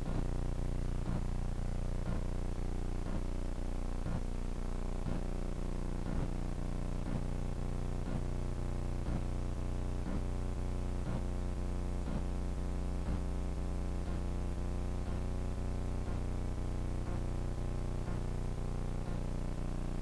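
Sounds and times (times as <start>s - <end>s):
steady buzzing hum: 0.0s - 20.0s.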